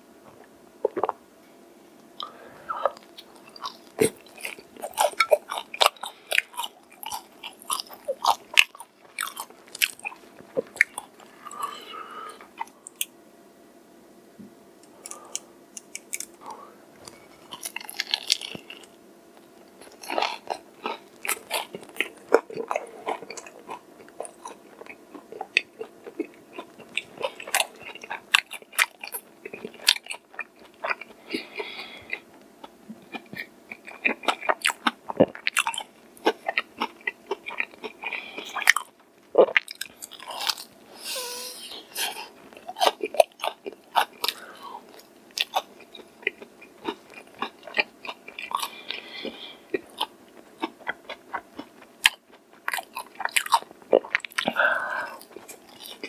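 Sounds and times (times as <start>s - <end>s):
crunching fried chicken: 3.0s - 11.9s, 17.0s - 40.8s, 41.9s - 56.0s.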